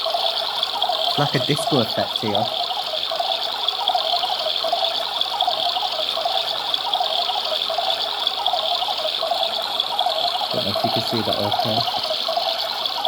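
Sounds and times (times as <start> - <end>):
toy washing machine motor: 0.0 - 13.0.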